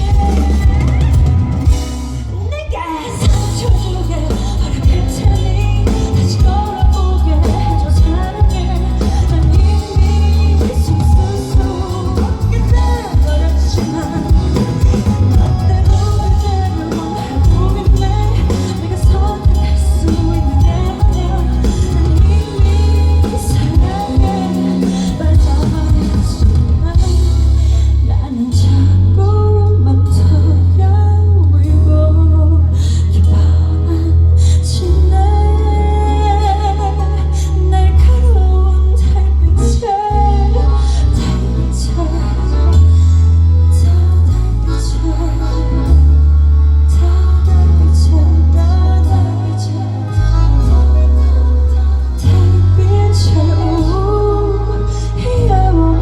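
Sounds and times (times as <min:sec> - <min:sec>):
booming bass: 0:00.0 - 0:56.0
live band playing: 0:00.0 - 0:56.0
woman singing: 0:00.0 - 0:56.0.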